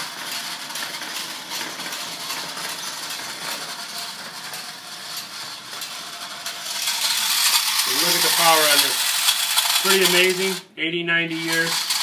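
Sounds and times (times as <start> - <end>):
wind-up toy gears whirring: 0.0 - 10.6, 11.3 - 12.0.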